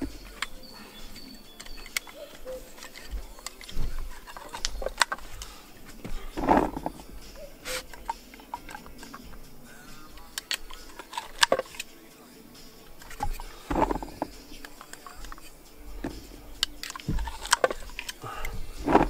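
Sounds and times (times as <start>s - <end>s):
small clicks and knocks: 0.0s - 12.0s, 12.9s - 19.0s.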